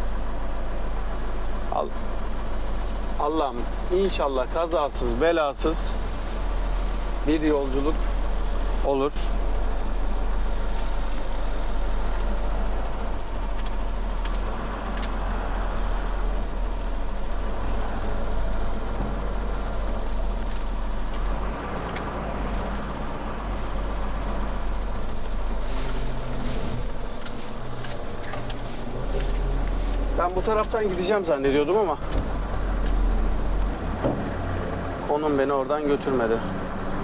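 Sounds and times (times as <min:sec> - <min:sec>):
road noise: 0:00.0 - 0:37.0
truck diesel engine drone: 0:00.0 - 0:37.0.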